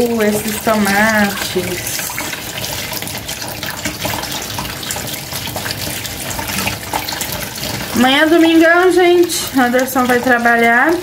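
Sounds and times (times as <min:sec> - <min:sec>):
tap running into sink: 0:00.0 - 0:11.0.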